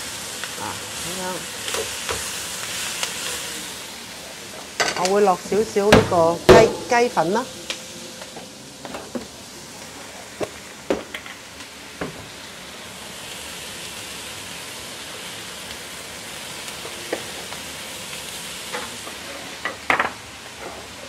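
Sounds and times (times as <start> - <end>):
stems sizzling in a wok: 0.0 - 21.0.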